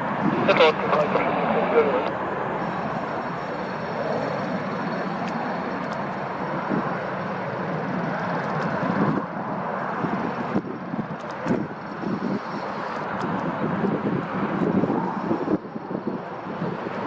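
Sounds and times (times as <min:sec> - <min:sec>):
airliner engines roaring on takeoff: 0:00.0 - 0:17.0.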